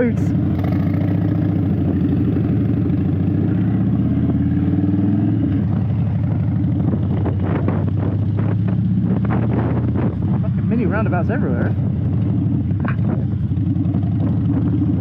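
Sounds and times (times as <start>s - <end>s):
motorcycle engine throbbing: 0.0s - 15.0s
wind buffeting microphone: 0.0s - 15.0s.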